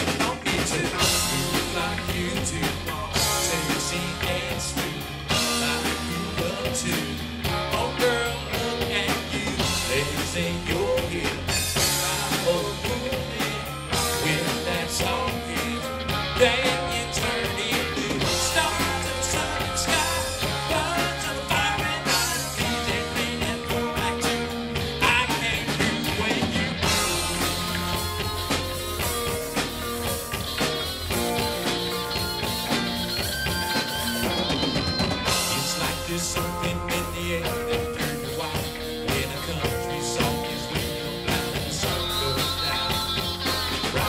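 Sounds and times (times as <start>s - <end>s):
person singing: 0.0s - 28.3s, 31.6s - 44.0s
live rock band playing: 0.0s - 44.0s.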